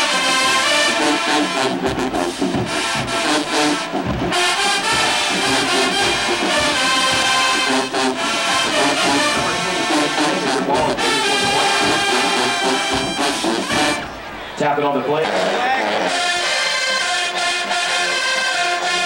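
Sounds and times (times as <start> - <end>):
marching band brass playing: 0.0 - 19.0.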